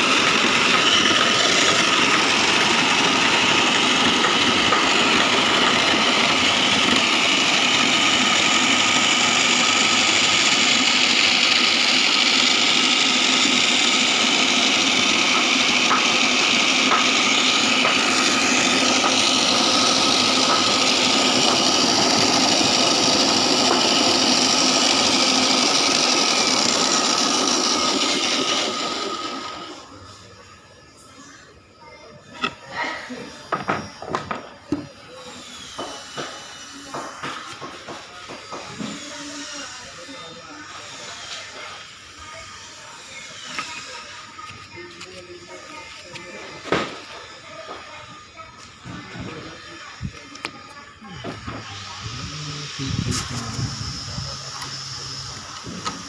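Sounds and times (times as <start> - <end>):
foam-shredding machine running: 0.0 - 56.0.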